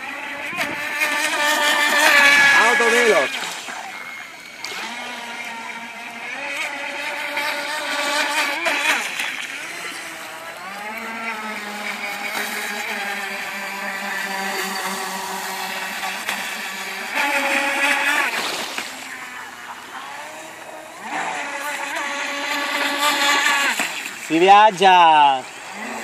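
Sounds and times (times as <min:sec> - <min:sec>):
model speedboat motor running: 0:00.0 - 0:26.0.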